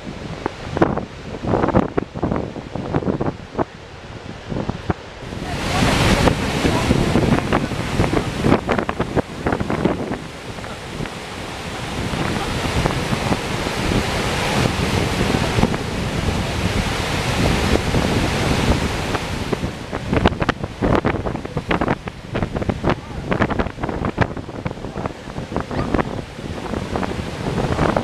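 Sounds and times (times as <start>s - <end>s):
roar of falling water: 0.0s - 28.0s
wind buffeting microphone: 0.0s - 28.0s.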